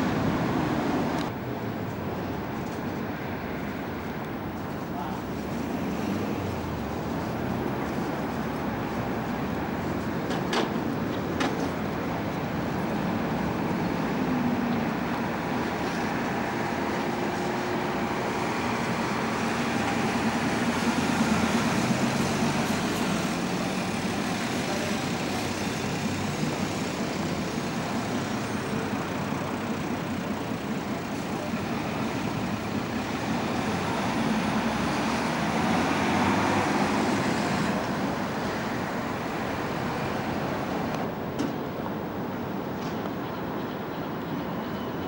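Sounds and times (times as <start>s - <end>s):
bus engines passing: 0.0s - 45.0s.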